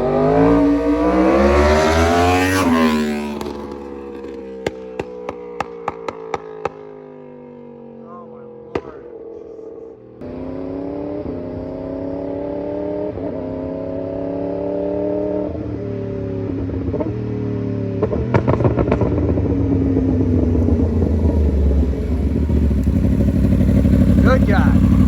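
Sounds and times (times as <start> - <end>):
motorbike engine accelerating: 0.0 - 6.9, 8.7 - 25.0.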